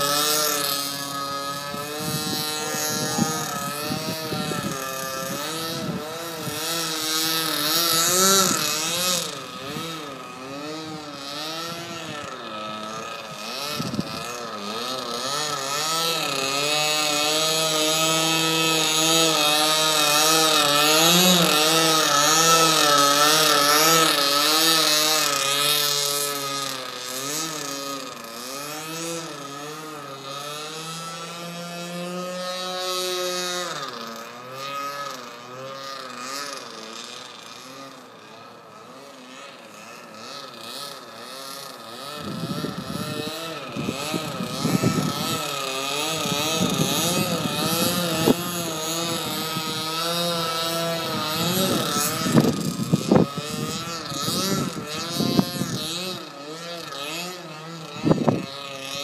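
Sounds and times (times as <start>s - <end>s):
model plane engine: 0.0s - 59.0s.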